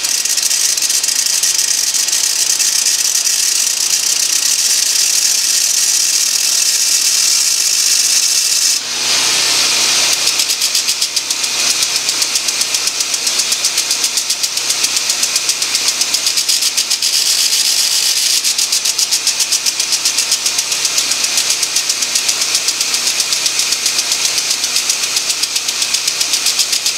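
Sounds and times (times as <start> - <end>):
small engine running: 0.0 - 26.9.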